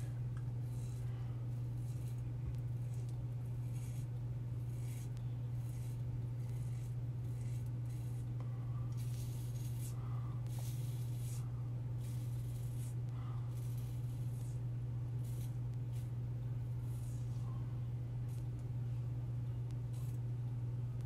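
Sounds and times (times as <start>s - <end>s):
razor scraping stubble: 0.0s - 14.6s, 15.2s - 17.6s, 18.2s - 18.7s, 19.7s - 20.3s
steady low hum: 0.0s - 21.0s.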